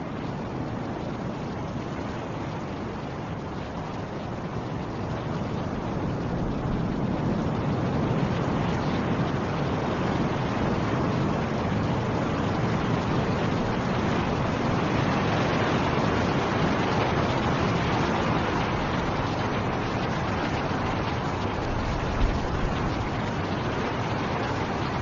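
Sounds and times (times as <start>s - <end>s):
snowstorm wind blowing: 0.0s - 25.0s.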